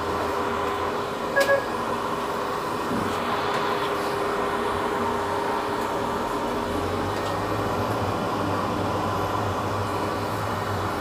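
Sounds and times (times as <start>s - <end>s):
constant engine whine: 0.0s - 11.0s.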